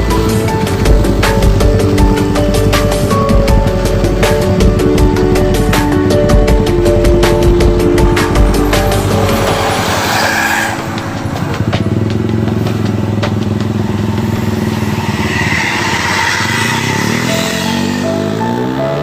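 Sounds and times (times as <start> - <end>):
melodic music: 0.0 - 16.0, 16.7 - 19.0
heavy vehicle engines droning: 0.0 - 19.0.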